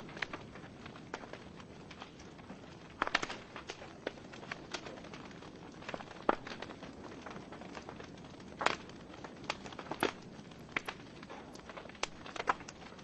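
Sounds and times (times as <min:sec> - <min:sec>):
fire hissing: 0:00.0 - 0:13.0
wood fire crackling: 0:00.0 - 0:13.0.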